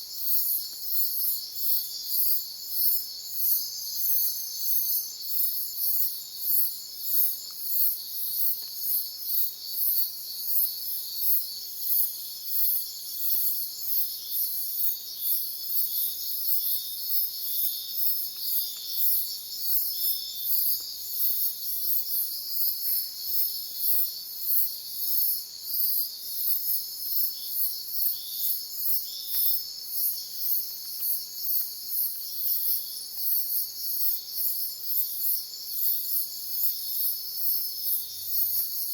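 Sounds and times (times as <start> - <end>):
insects trilling: 0.1 - 38.9.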